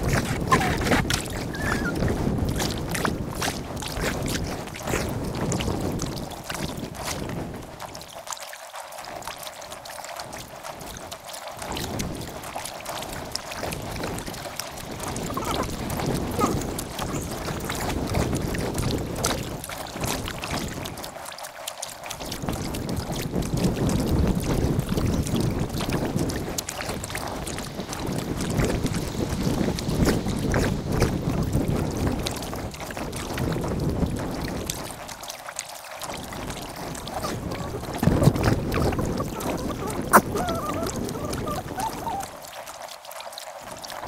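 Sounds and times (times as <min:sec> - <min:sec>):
wind buffeting microphone: 0:00.0 - 0:08.1, 0:10.2 - 0:21.2, 0:22.1 - 0:35.3, 0:36.0 - 0:42.5
paddle splashing water: 0:00.0 - 0:44.0.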